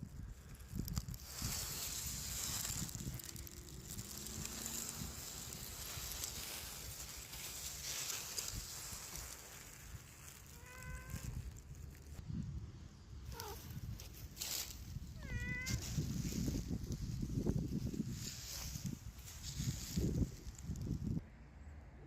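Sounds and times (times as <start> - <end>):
rustling hiss: 0.0 - 12.2, 13.2 - 21.2
wind buffeting microphone: 0.0 - 21.2.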